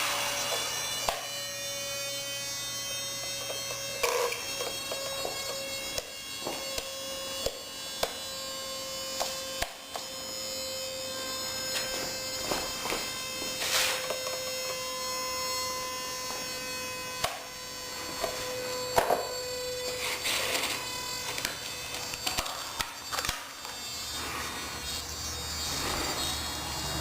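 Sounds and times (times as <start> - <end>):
rc helicopter motor whining: 0.0 - 27.0.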